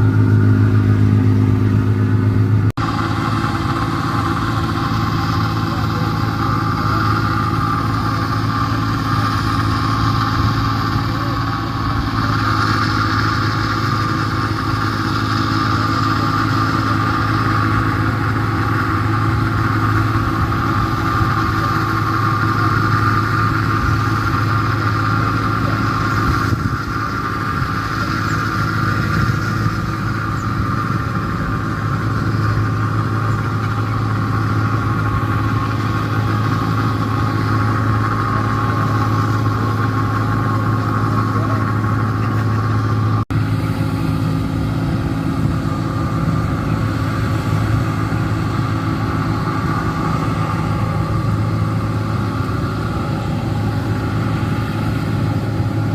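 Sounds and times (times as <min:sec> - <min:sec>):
combine harvester engine drone: 0:00.0 - 0:55.9.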